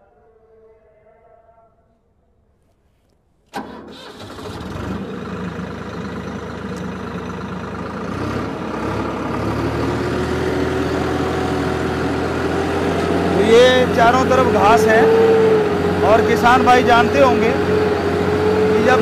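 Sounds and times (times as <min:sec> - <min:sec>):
tractor diesel engine running: 0:03.5 - 0:19.0.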